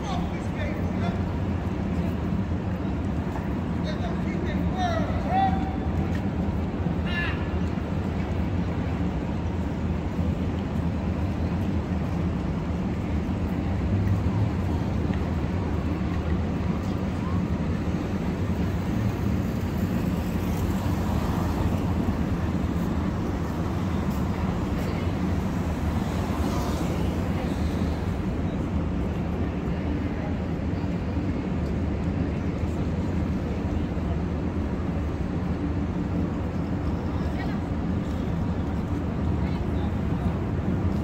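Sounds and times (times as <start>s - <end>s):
low rumble of traffic: 0.0s - 41.0s.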